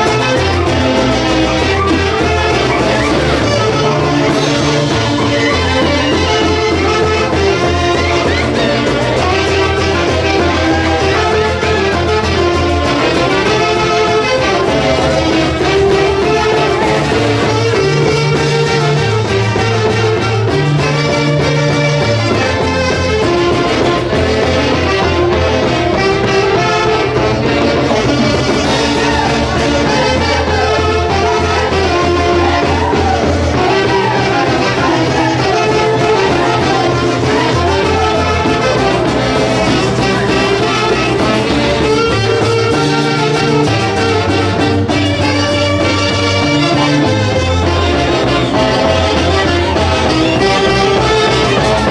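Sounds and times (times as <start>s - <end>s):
folk band playing: 0.0s - 51.9s
steady bass line: 0.0s - 51.9s
wind and brass melody: 0.0s - 51.9s.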